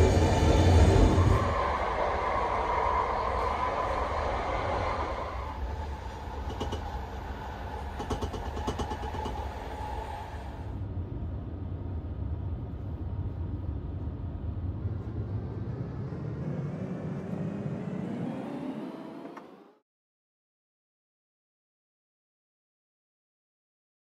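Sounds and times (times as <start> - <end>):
train rumbling on rails: 0.0 - 19.8.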